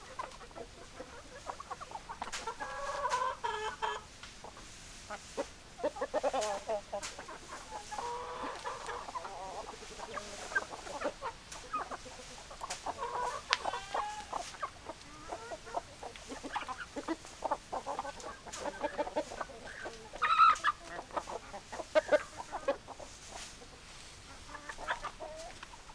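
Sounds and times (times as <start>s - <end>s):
hens clucking: 0.0s - 25.9s.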